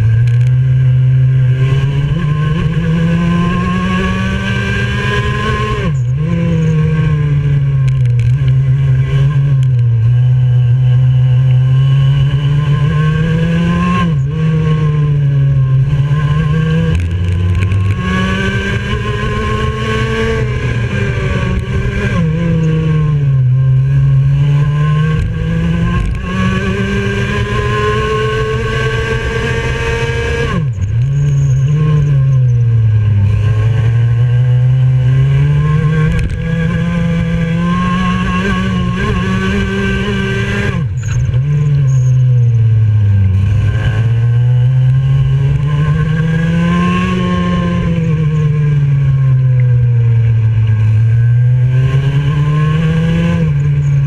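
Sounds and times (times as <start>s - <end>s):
kart engine at racing speed: 0.0s - 54.0s.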